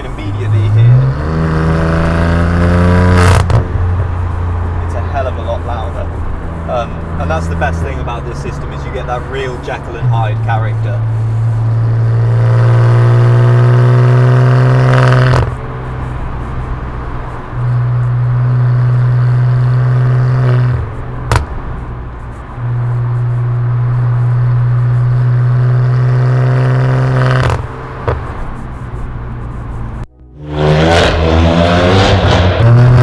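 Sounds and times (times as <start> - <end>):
car exhaust drone accelerating: 0.0 - 33.0
exhaust crack: 0.0 - 33.0.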